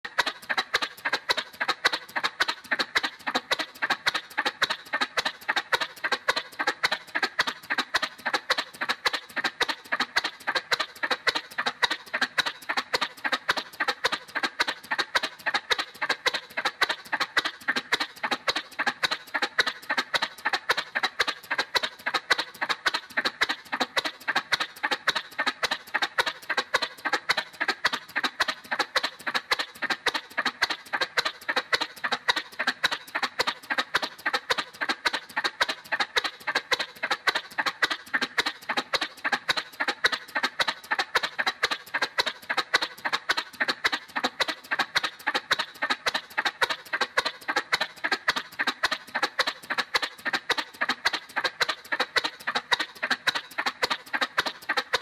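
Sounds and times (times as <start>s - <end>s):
cartoon motorcycle putter: 0.0s - 55.0s.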